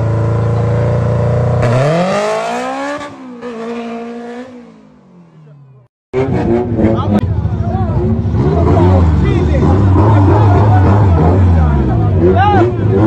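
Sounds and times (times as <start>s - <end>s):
car engine revving and launching: 0.0s - 7.2s, 8.0s - 13.0s.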